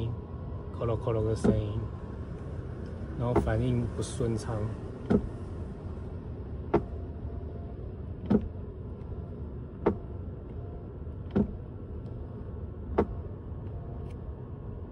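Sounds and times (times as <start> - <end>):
seat recline motor humming: 1.2 - 1.9, 3.2 - 14.9.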